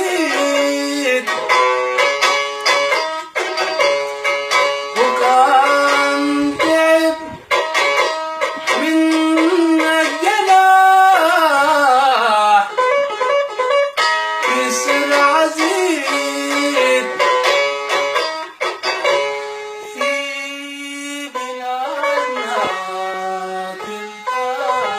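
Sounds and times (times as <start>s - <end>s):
plucked string melody: 0.0s - 24.9s.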